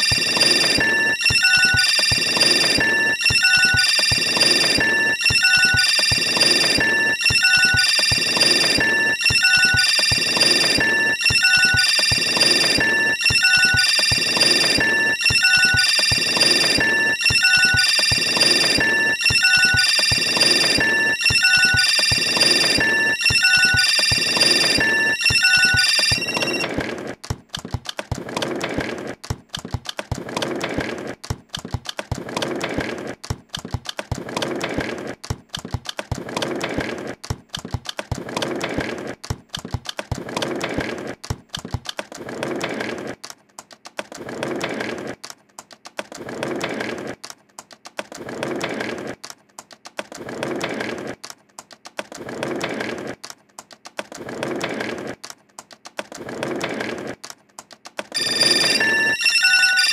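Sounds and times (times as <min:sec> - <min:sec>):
keyboard typing clicks: 0:00.0 - 0:58.8.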